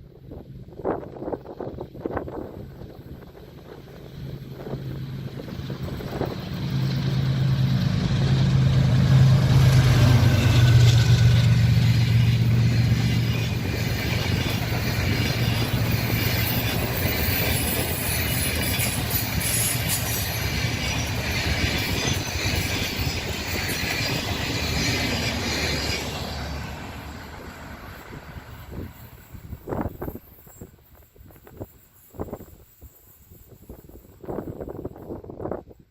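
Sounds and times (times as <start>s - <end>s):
locomotive engine drone: 0.0s - 30.1s.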